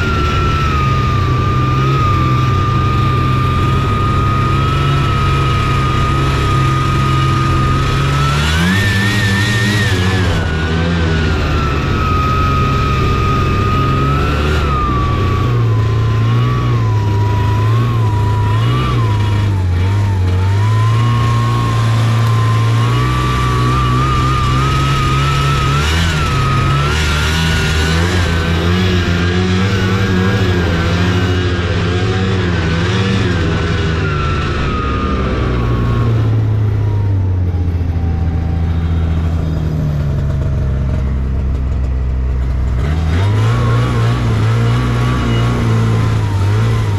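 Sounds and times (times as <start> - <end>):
high whine: 0.0 - 46.9
snowmobile engine revving: 0.0 - 46.9.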